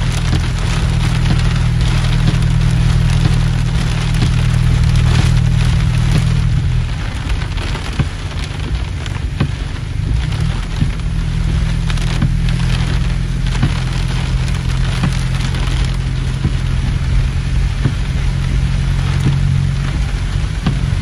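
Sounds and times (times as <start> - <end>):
deep low rumble: 0.0 - 21.0
heavy rain on windshield and roof: 0.0 - 21.0.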